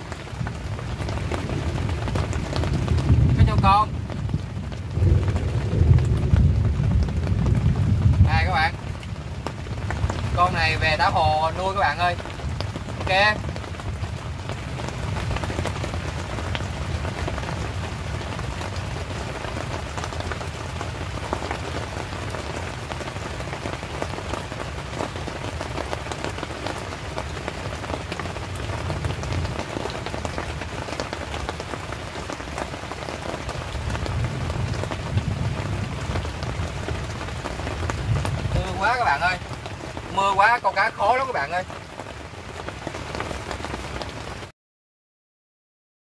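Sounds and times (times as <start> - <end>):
heavy rain falling: 0.0 - 44.5
sharp raindrop hits: 0.0 - 44.5.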